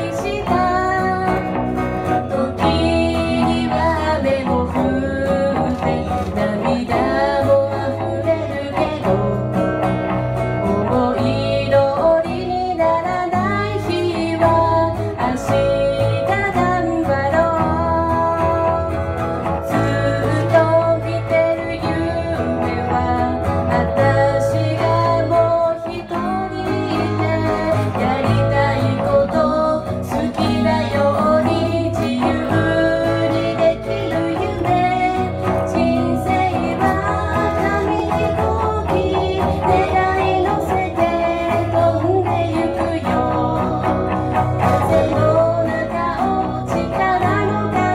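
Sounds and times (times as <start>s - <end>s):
strummed acoustic guitar: 0.0s - 47.9s
woman singing pop song: 0.0s - 47.9s.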